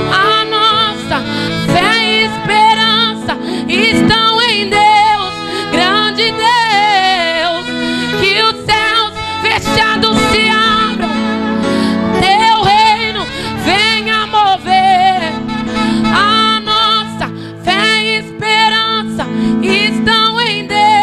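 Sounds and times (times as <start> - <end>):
instrumental backing music: 0.0 - 21.0
woman singing into microphone: 0.0 - 21.0.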